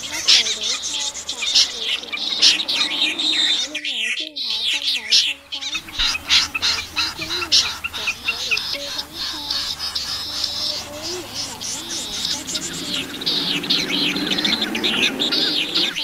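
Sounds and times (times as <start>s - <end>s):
chorus of high bird calls: 0.0s - 16.0s
lower wavering bird notes: 0.0s - 16.0s.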